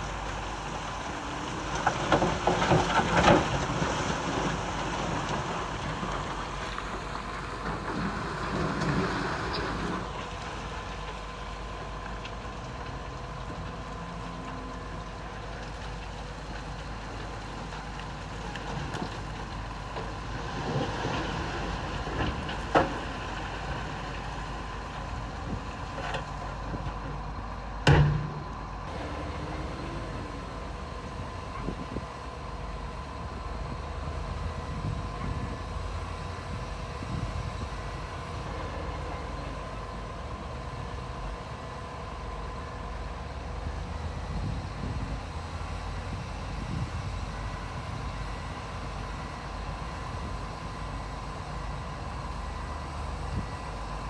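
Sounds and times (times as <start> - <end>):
heavy machinery running: 0.0 - 54.0.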